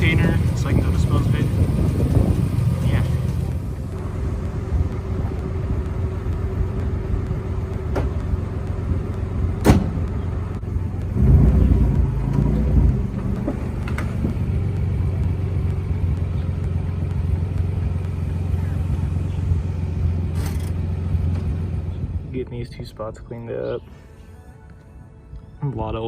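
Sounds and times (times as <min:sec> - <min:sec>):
car engine idling: 0:00.0 - 0:26.0
low noise: 0:00.0 - 0:26.0.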